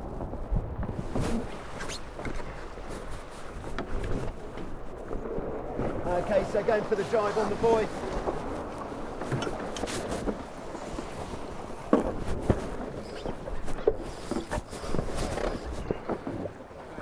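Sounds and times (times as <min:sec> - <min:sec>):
knocks and thumps on boat: 0:00.0 - 0:17.0
water noise: 0:00.0 - 0:17.0
wind: 0:00.0 - 0:17.0.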